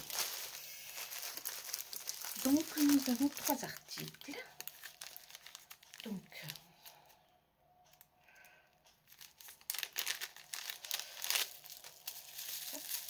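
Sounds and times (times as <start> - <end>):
plastic packaging crinkling: 0.0 - 7.1, 9.0 - 13.0.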